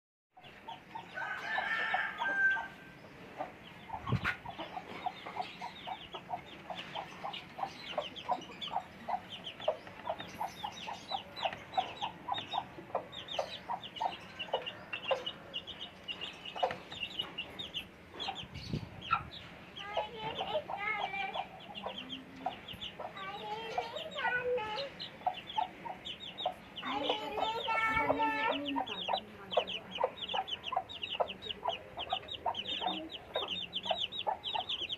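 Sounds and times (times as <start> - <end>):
chickens clucking: 0.4 - 34.9
chicks peeping: 0.4 - 34.9.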